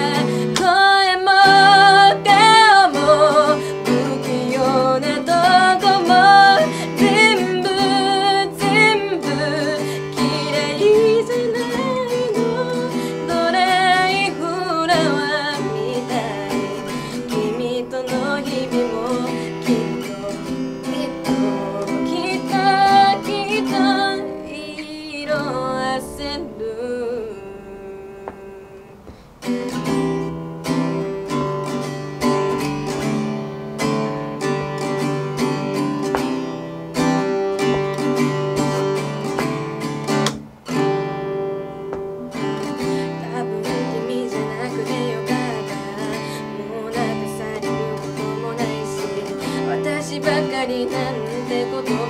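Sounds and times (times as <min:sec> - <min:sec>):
girl singing: 0:00.0 - 0:41.0, 0:42.2 - 0:52.0
acoustic guitar strumming: 0:00.0 - 0:52.0.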